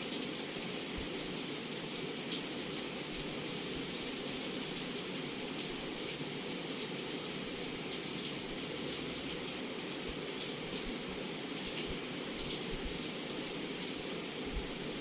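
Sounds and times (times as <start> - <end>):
heavy rain on window glass: 0.0 - 15.0.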